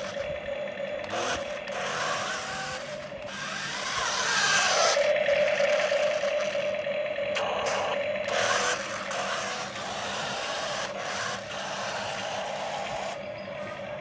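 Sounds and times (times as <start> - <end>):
toy electric motors whining: 0.0 - 14.0.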